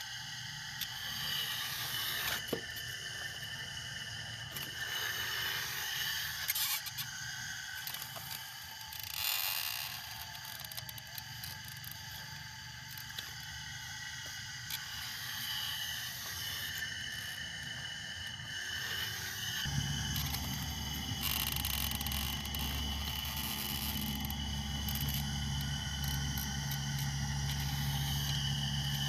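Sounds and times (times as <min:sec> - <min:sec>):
toy excavator motor and pump: 0:00.0 - 0:29.0.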